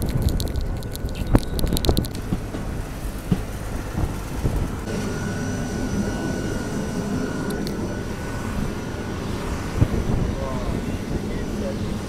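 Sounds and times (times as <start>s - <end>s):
train wheels rumbling on rails: 0.0s - 12.0s
thin high whine: 0.8s - 12.0s.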